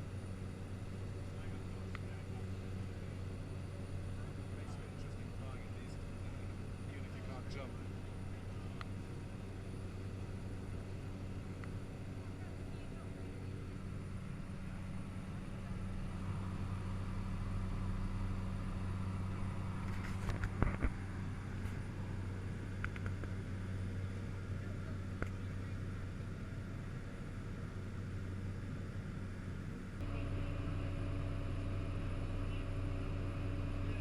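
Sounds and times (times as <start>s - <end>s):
propeller engine droning: 0.0s - 34.0s.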